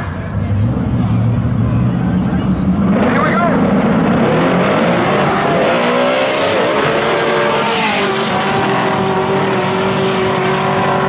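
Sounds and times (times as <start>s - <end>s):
drag racing cars accelerating: 0.0s - 11.0s.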